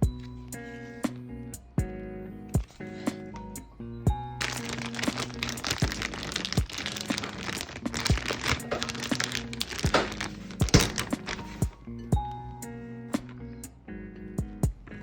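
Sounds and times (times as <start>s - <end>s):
background guitar music: 0.0s - 15.0s.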